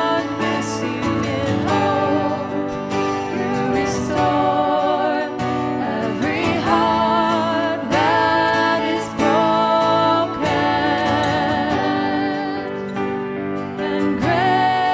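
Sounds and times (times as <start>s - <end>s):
guitar accompaniment: 0.0s - 14.9s.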